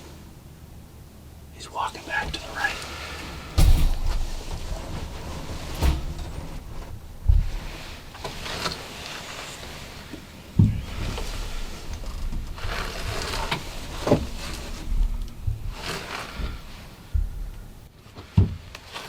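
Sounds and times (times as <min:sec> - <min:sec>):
dull thumps: 0:02.1 - 0:09.2, 0:10.1 - 0:18.7
rustling of gear: 0:02.5 - 0:19.0.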